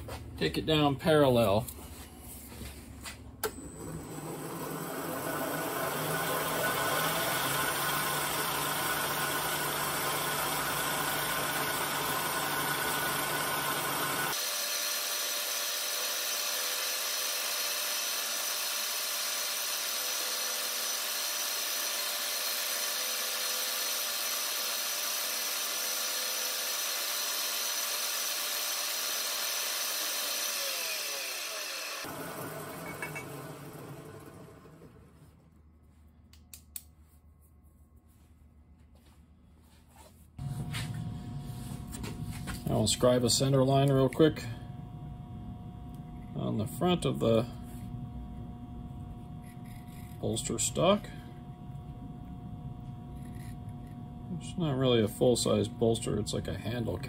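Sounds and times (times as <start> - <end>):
milling machine whine: 3.4 - 35.2, 40.4 - 56.8.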